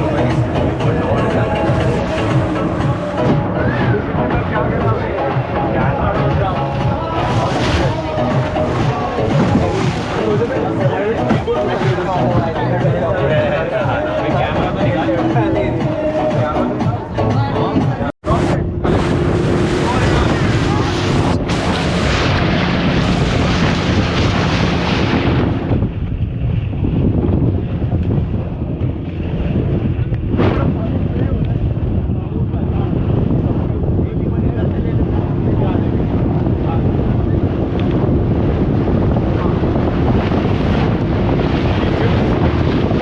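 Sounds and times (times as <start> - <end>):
rushing water: 0.0 - 26.6, 34.3 - 43.0
boat engine droning: 0.0 - 43.0
wind buffeting microphone: 0.0 - 43.0.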